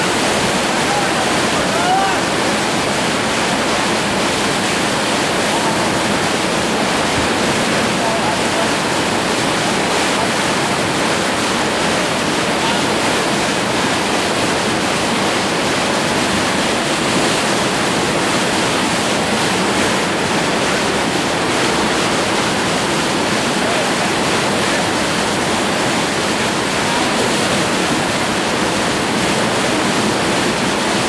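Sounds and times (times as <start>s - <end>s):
whitewater rapids rushing: 0.0s - 31.0s.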